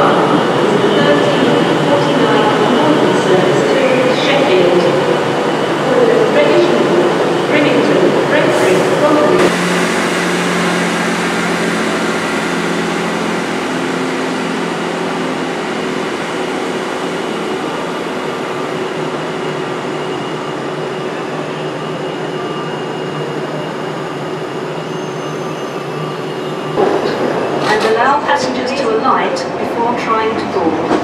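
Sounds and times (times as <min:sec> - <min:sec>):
diesel train engine drone: 0:00.0 - 0:31.0
train rail noise: 0:00.0 - 0:31.0.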